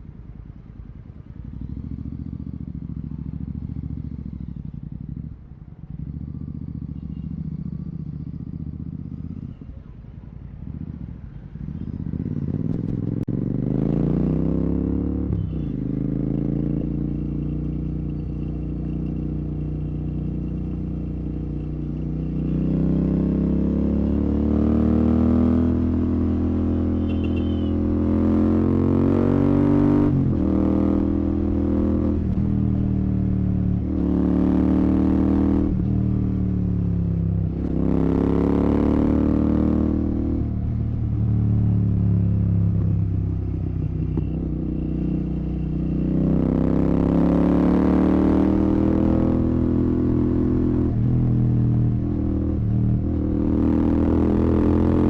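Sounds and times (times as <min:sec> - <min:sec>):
motorcycle engine revving: 0:01.4 - 0:09.7, 0:10.6 - 0:55.0.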